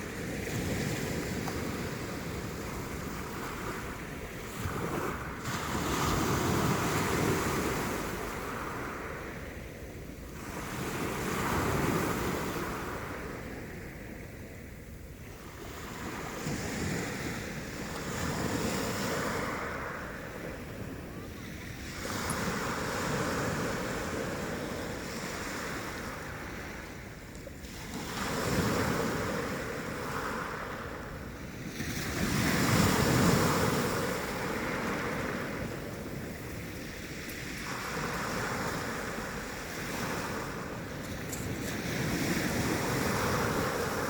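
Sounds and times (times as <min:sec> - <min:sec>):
sea waves breaking on shore: 0:00.0 - 0:44.0
wind on microphone: 0:00.0 - 0:44.0.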